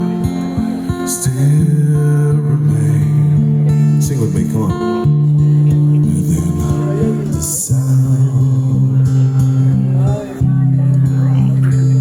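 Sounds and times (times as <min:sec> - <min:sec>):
acoustic guitar picked notes: 0:00.0 - 0:12.0.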